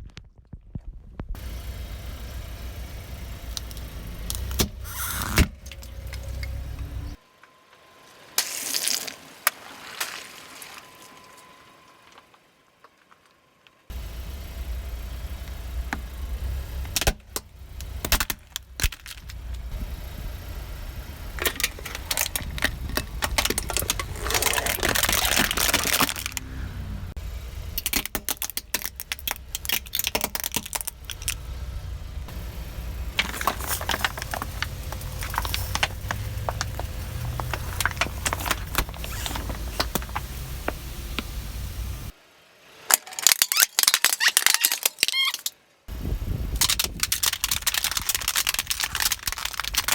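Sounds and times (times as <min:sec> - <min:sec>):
low car rumble: 0:00.8 - 0:08.3, 0:13.4 - 0:42.6, 0:45.8 - 0:49.9
objects crunching under tyres: 0:03.3 - 0:07.2, 0:07.8 - 0:13.4, 0:15.4 - 0:20.4, 0:21.0 - 0:42.2, 0:42.8 - 0:45.6, 0:46.2 - 0:49.9.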